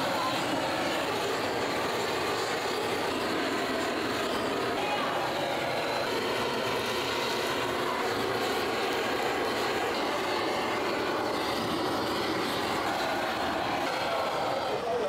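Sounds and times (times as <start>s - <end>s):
blowtorch flame rushing: 0.0s - 15.0s.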